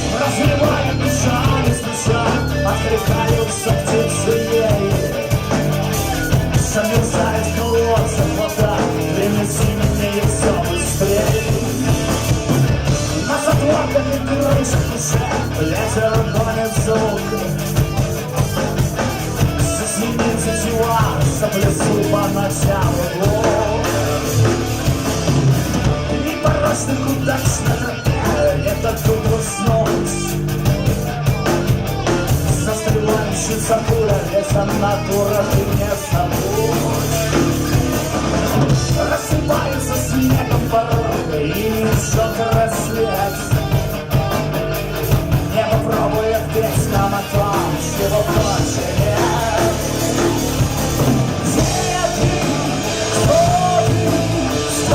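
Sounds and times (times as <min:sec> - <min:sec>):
bass guitar: 0:00.0 - 0:54.9
drum kit: 0:00.0 - 0:54.9
electric guitars: 0:00.0 - 0:54.9
rock band playing live: 0:00.0 - 0:54.9.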